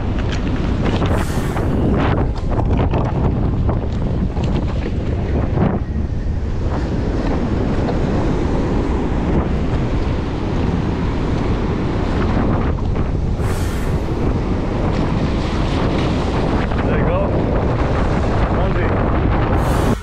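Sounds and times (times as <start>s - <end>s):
heavy surf breaking on rocks: 0.0s - 20.0s
wind buffeting microphone: 0.0s - 20.0s.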